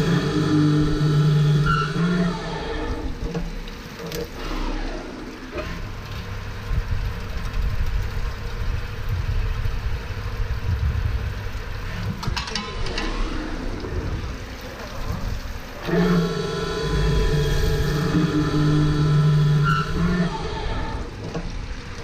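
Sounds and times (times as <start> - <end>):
drilling machine running: 0.0 - 7.4, 11.8 - 22.0.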